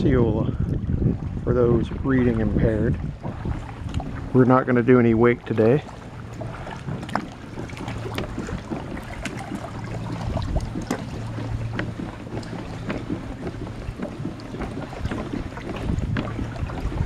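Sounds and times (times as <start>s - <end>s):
kayak paddle strokes in water: 0.0s - 17.0s
water dripping and splashing: 0.0s - 17.0s
water sloshing at hull: 0.0s - 17.0s
wind noise on microphone: 0.0s - 17.0s.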